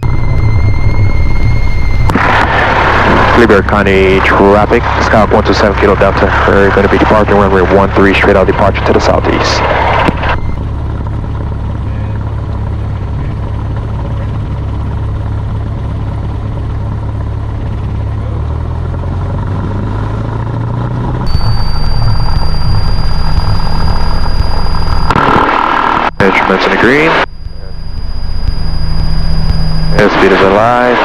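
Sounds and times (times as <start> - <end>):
high whine: 0.0 - 18.5, 21.2 - 31.0
propeller plane engine: 0.0 - 31.0.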